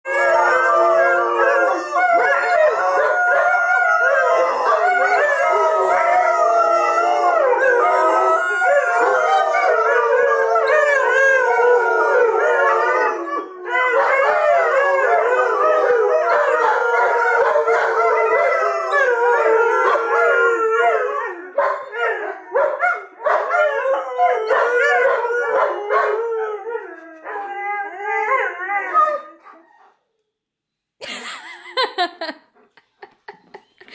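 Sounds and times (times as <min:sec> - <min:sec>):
dogs howling in chorus: 0:00.1 - 0:29.6.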